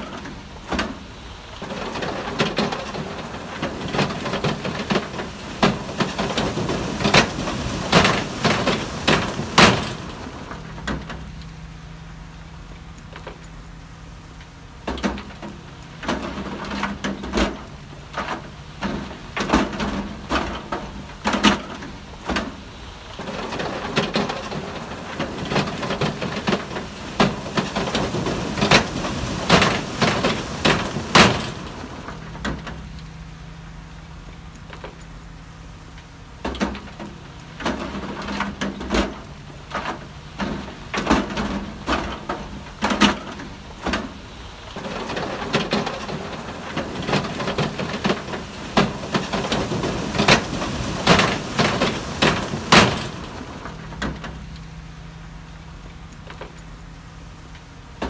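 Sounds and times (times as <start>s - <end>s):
bulldozer engine hum: 0.0s - 58.0s.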